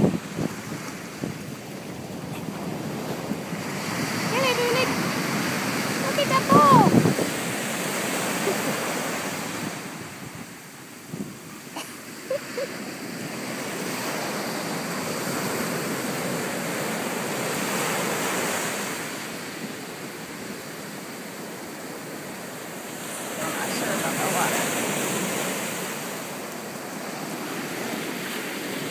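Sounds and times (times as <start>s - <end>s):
ocean surf breaking on beach: 0.0s - 28.9s.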